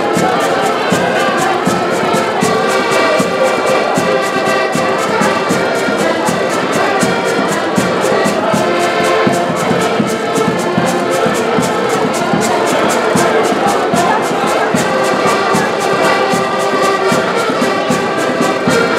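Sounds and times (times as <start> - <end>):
accordions and concertinas playing: 0.0 - 18.9.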